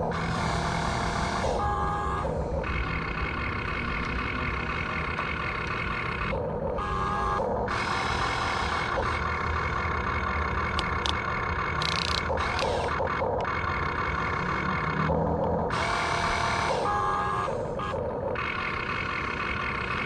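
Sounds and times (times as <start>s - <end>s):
simulated engine drone from speaker: 0.0s - 20.0s
small electric motors whining: 0.1s - 18.8s.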